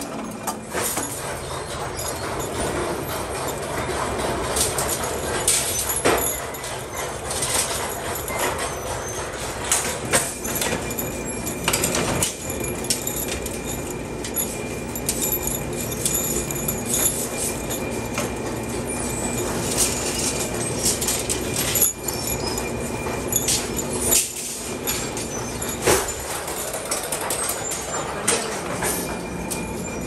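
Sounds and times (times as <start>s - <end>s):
steel rods clinking together: 0.0s - 30.0s
workshop machinery din: 0.0s - 30.0s.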